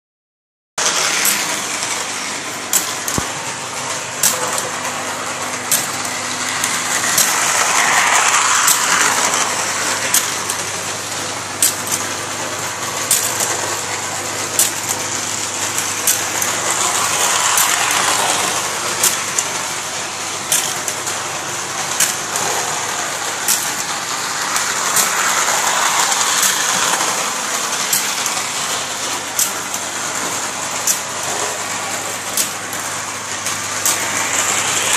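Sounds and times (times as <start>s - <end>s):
sharp clicks of train on track: 0.8s - 34.9s
toy train motor and wheels whirring: 0.8s - 34.9s.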